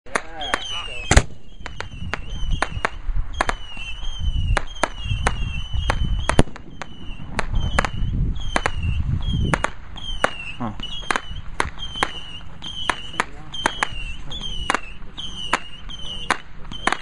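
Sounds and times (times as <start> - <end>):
firework cracks and bangs: 0.1 - 17.0
high falling whistles: 0.2 - 17.0.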